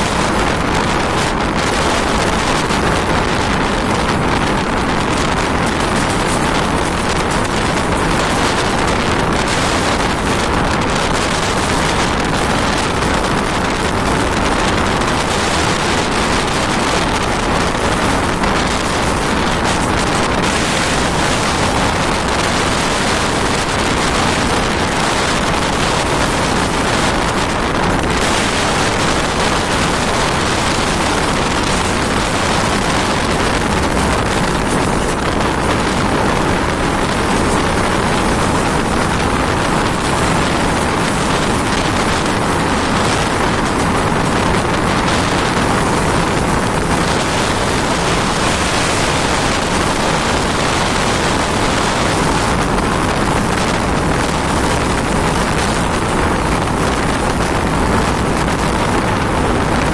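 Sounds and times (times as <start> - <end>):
train wheels rumbling on rails: 0.0 - 59.9
wind on microphone: 0.0 - 59.9.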